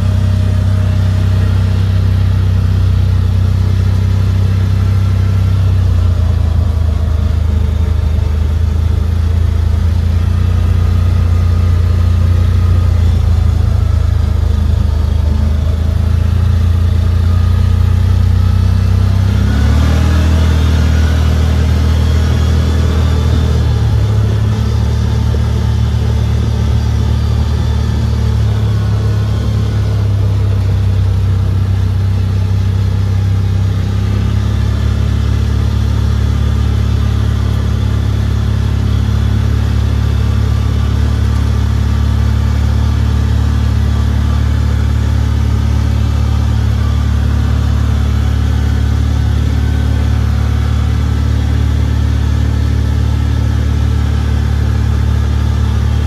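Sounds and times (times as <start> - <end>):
engine running while driving: 0.0 - 56.0.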